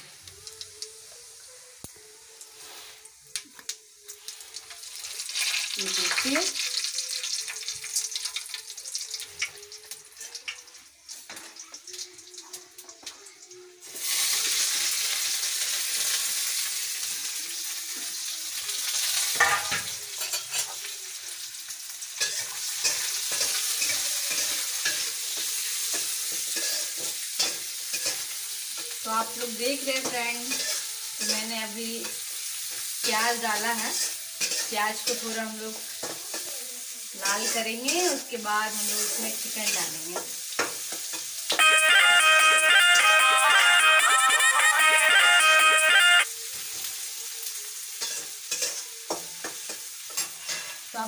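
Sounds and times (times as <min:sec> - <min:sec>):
onion sizzling in hot oil: 0:00.0 - 0:51.0.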